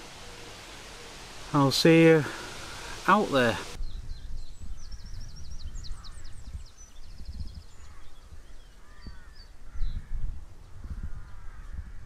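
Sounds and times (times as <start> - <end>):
birds calling and trilling: 0.0 - 12.0.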